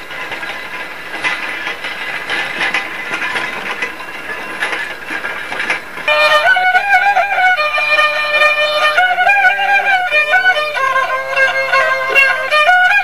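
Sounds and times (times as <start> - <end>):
road grader rattling on gravel: 0.0 - 13.0.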